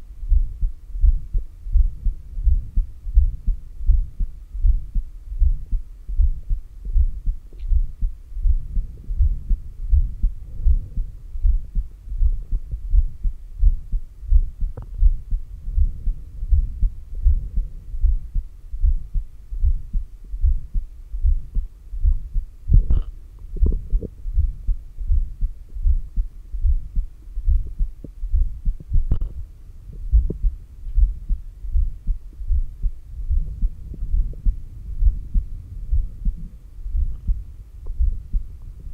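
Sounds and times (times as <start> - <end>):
heartbeat through stethoscope: 0.2 - 38.9.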